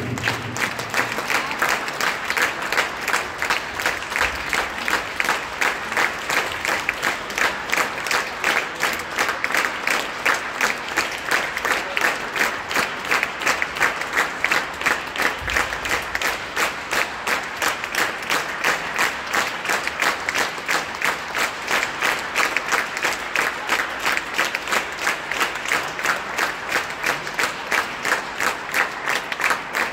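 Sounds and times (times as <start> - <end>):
audience clapping rhythmically: 0.0 - 29.9.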